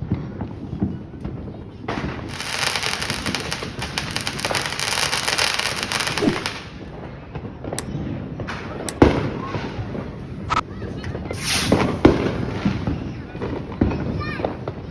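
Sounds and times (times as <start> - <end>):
firework pops: 0.4 - 7.0, 7.7 - 14.8
fireworks crackling: 0.4 - 7.5, 9.1 - 14.9.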